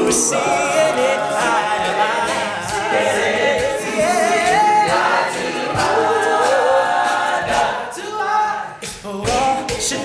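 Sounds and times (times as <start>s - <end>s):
male a cappella group singing: 0.0s - 10.0s.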